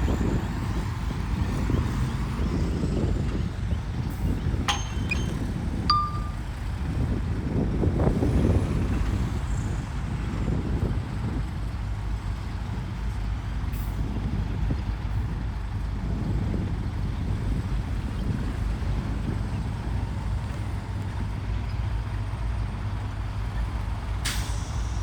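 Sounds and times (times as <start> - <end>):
diesel earthmoving machinery rumbling: 0.0 - 25.0.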